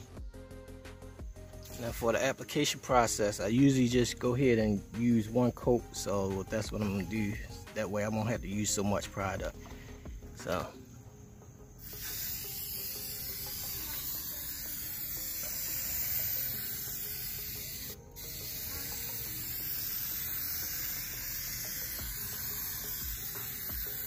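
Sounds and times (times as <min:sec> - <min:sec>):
aerosol spray hissing: 0:00.0 - 0:11.0, 0:11.7 - 0:24.0.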